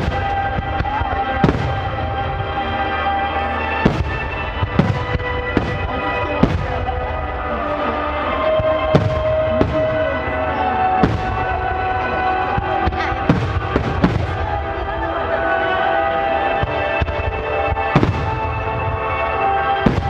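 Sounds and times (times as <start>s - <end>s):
music with long held notes: 0.0s - 20.0s.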